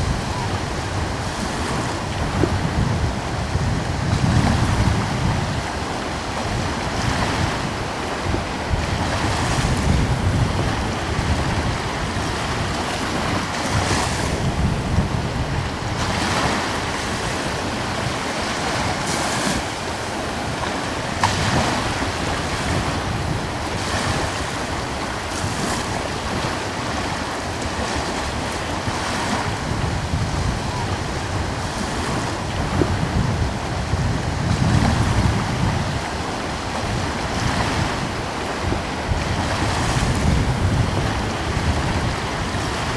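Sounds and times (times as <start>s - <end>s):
breeze rumbling on microphone: 0.0s - 26.5s, 27.7s - 42.9s
sea waves washing in: 0.0s - 42.9s.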